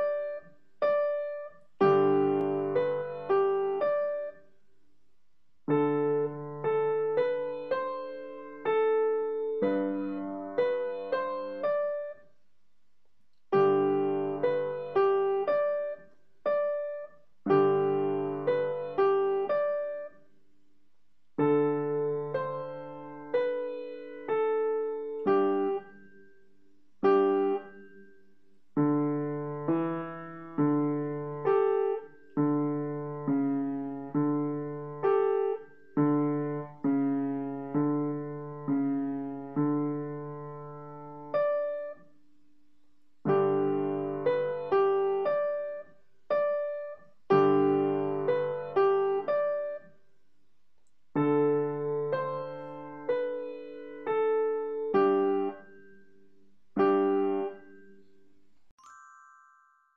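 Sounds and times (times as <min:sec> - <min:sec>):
beginner piano march: 0:00.0 - 0:04.7, 0:05.6 - 0:12.4, 0:13.3 - 0:20.4, 0:21.2 - 0:50.0, 0:50.8 - 0:58.9.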